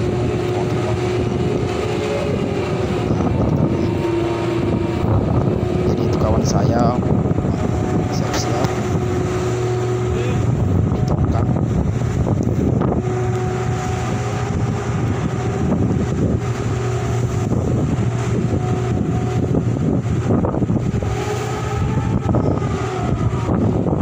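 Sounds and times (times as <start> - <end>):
large diesel engine droning: 0.0 - 24.0
wind buffeting microphone: 0.0 - 24.0.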